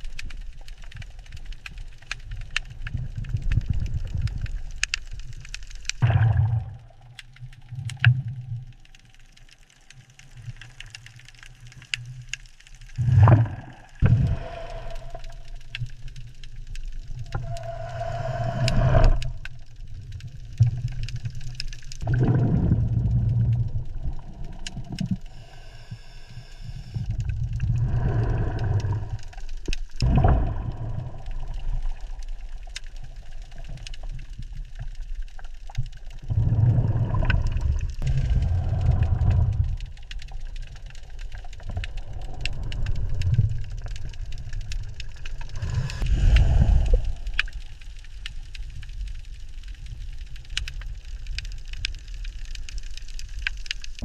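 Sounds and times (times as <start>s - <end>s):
low underwater rumble: 0.0s - 53.0s.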